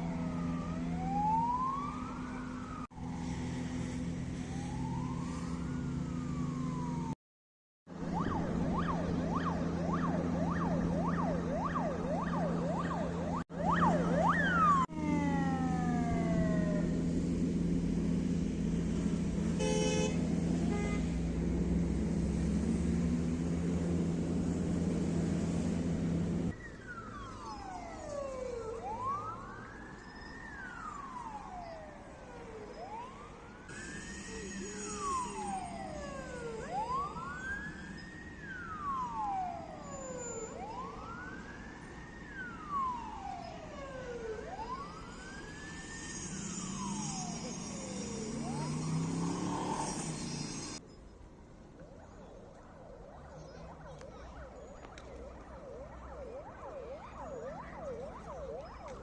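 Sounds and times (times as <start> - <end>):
ambulance siren wailing: 0.0 - 7.2, 7.9 - 50.8, 51.6 - 59.0
low rumble of traffic: 0.0 - 7.2, 7.9 - 59.0.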